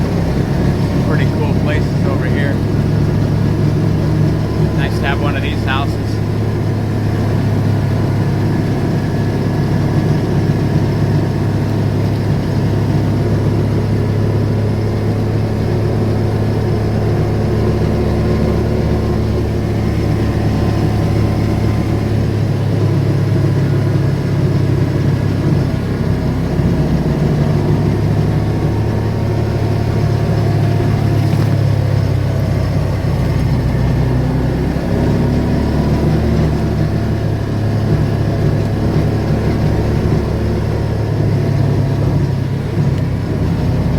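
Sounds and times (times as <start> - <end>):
car engine and road drone: 0.0 - 43.9.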